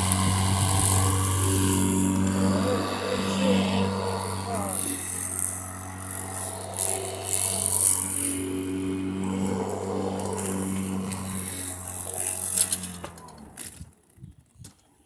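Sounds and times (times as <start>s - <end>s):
electric lawn mower humming: 0.0s - 15.0s.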